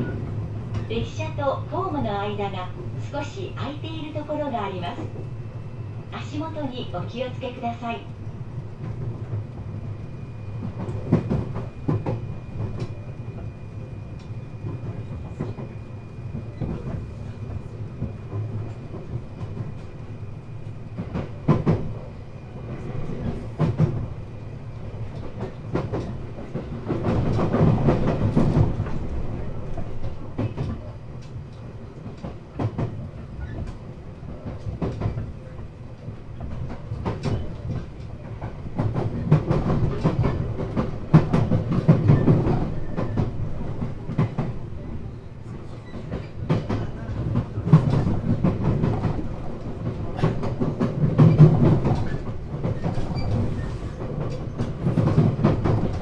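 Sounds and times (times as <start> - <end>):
train interior rumble: 0.0 - 56.0.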